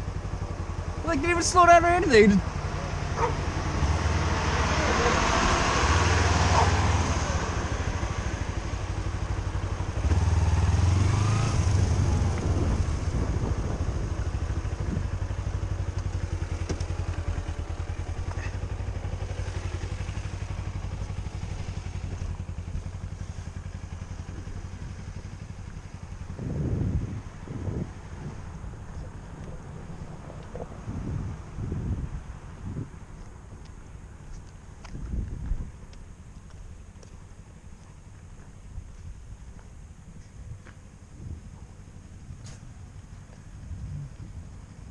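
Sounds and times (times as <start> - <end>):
vehicle engine rumbling: 0.0 - 44.9.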